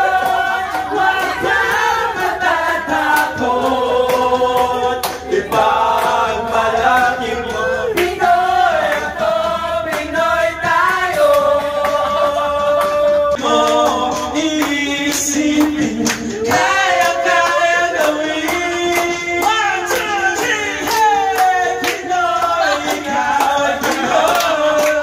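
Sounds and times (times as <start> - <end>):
backing music with steady beat: 0.0 - 25.0
people singing karaoke: 0.0 - 25.0.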